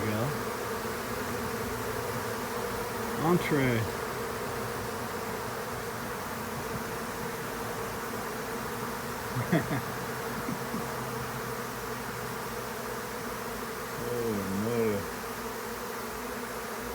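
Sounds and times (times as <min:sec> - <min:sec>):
honeybees buzzing: 0:00.0 - 0:16.9.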